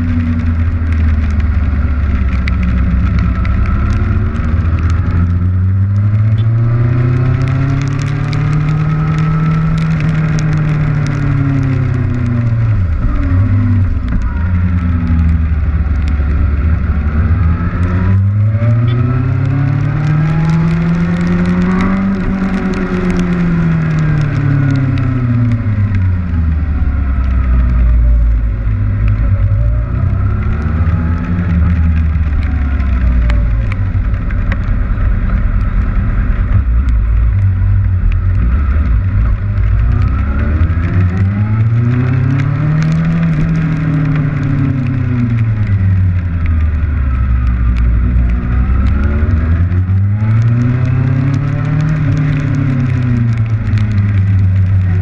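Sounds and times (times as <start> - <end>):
motorcycle engine revving: 0.0 - 55.0
rain hitting camera: 0.0 - 55.0.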